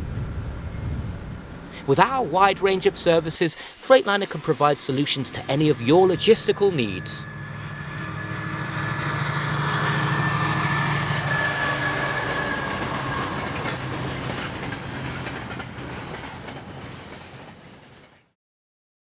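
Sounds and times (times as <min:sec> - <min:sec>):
diesel locomotive engine drone: 0:00.0 - 0:18.3
wagons rumbling on rails: 0:00.0 - 0:18.4.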